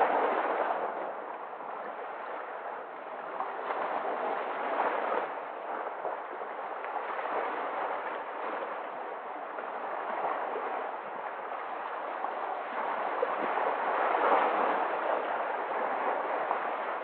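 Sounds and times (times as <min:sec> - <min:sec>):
sea waves washing in: 0:00.0 - 0:17.0.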